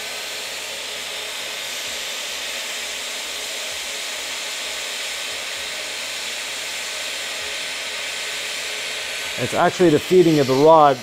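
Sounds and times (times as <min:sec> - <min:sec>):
hot-air welding gun hissing: 0:00.0 - 0:11.0.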